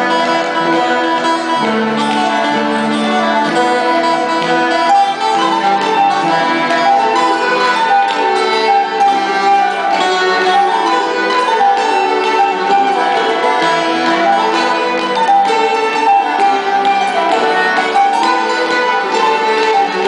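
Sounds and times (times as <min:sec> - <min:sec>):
plucked harp: 0:00.0 - 0:20.0
strummed acoustic guitar: 0:00.0 - 0:20.0.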